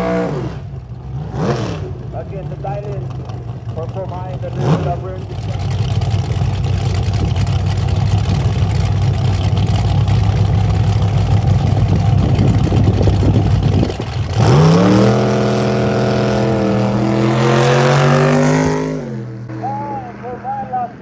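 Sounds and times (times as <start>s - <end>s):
race car accelerating: 0.0s - 21.0s
race car engines idling: 0.6s - 17.5s, 18.9s - 21.0s.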